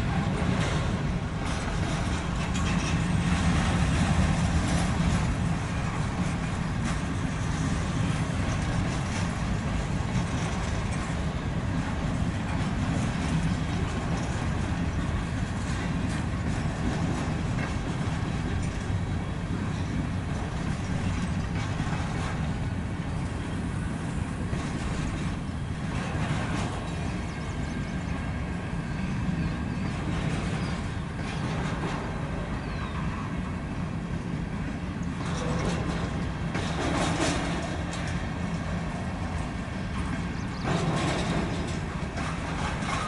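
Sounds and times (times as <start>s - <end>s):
freight train rolling over rails: 0.0s - 43.0s.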